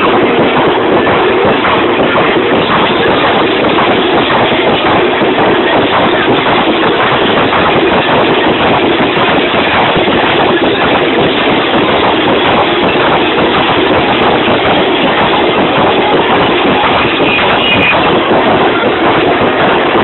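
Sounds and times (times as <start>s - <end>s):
crowd noise: 0.0s - 20.0s
drum group drumming: 0.0s - 20.0s.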